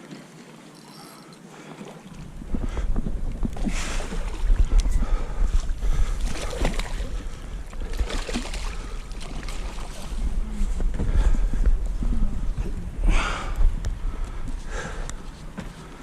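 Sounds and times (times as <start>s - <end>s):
wind buffeting microphone: 2.1s - 16.0s.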